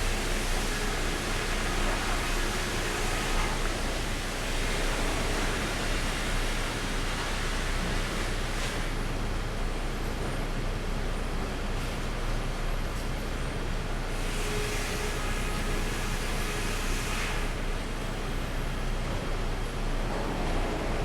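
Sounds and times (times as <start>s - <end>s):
sawmill machinery droning: 0.0s - 10.0s, 14.0s - 21.0s.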